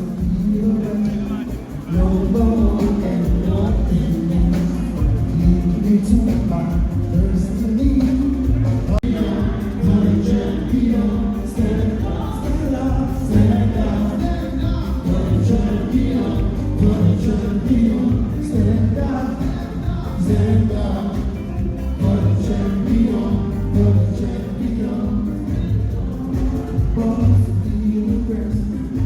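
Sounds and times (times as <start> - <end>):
gospel choir singing: 0.0 - 29.0
steady music beat: 0.0 - 29.0.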